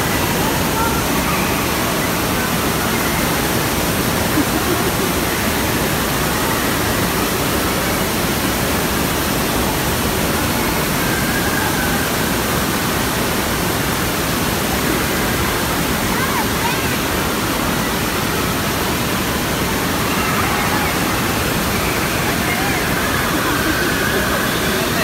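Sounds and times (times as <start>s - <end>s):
water rushing into pool: 0.0s - 25.0s.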